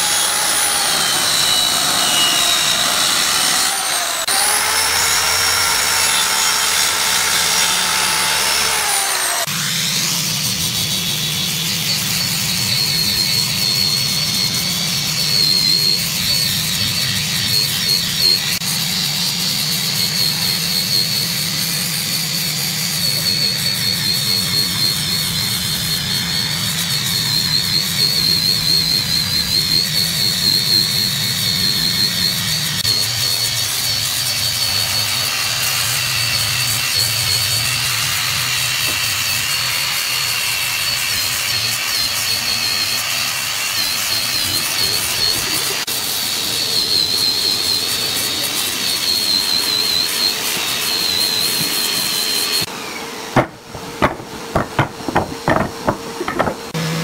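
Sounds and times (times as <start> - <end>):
angle grinder sanding: 0.0 - 57.0
circular saw cutting wood: 0.0 - 57.0.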